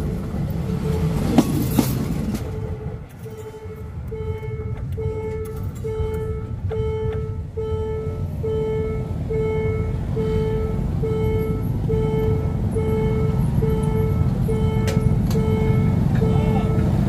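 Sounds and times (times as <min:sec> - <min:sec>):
motorcycle engines rumbling: 0:00.0 - 0:17.0
level crossing bell ringing: 0:00.7 - 0:17.0.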